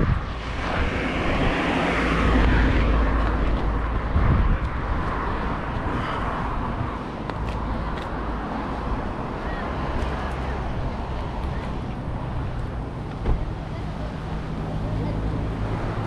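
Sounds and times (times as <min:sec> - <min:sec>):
broad rushing noise: 0:00.0 - 0:16.0
vehicle low rumble: 0:00.0 - 0:16.0.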